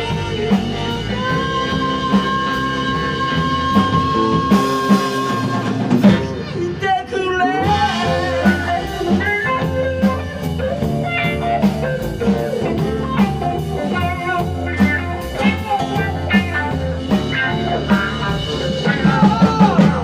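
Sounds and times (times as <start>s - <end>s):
bass guitar: 0.0s - 20.0s
drum kit beat: 0.0s - 20.0s
electric guitar lead: 0.0s - 20.0s.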